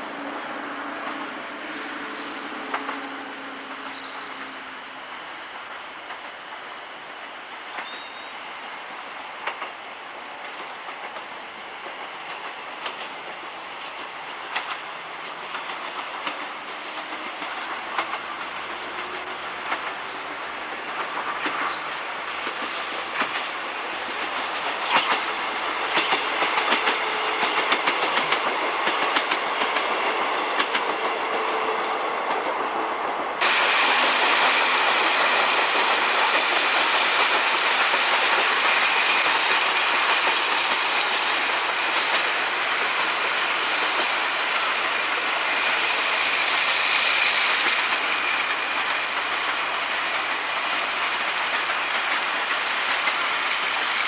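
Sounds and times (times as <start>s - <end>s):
train wheels clicking over rail joints: 1.0s - 8.4s, 9.0s - 54.0s.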